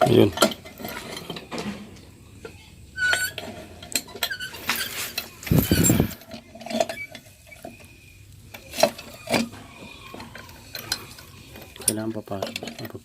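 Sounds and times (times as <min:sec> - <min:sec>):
metal clinks and scrapes: 0:00.0 - 0:01.9, 0:03.0 - 0:13.0.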